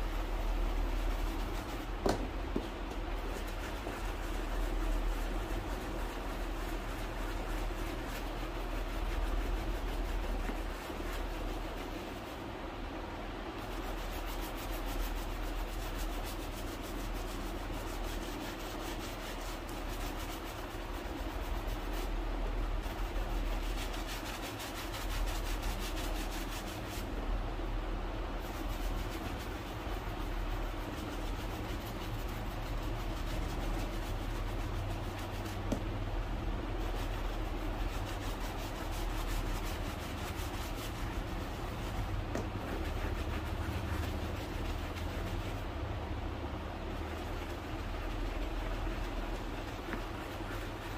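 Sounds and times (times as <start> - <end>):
rubbing strokes on leather shoe: 0.0 - 12.8, 13.5 - 50.9.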